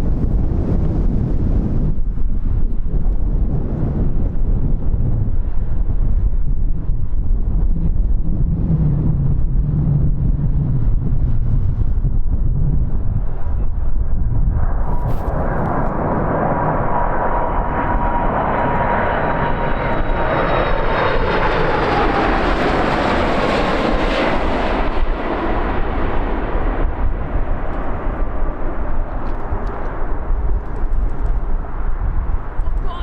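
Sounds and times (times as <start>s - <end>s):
jet engines passing: 0.0s - 33.0s
wind buffeting microphone: 0.0s - 33.0s.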